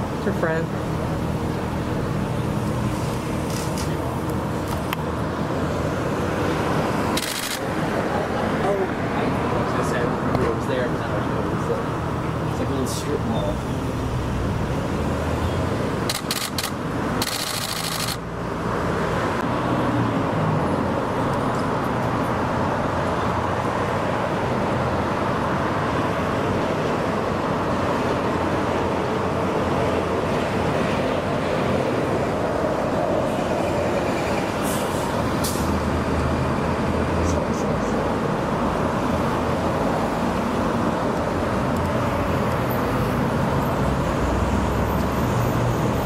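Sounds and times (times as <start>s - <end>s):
street traffic noise: 0.0s - 46.0s.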